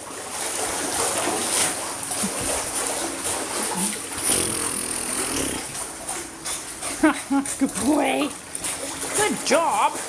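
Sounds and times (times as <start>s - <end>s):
pool water splashing: 0.0s - 10.0s.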